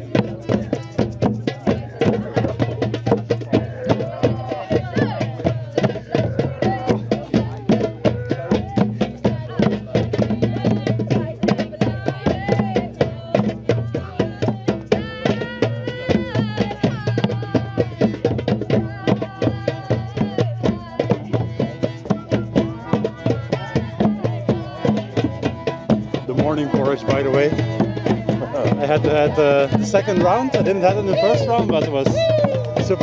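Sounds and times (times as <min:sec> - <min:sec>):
hand drums rhythm: 0:00.0 - 0:33.0
voices singing: 0:00.0 - 0:33.0.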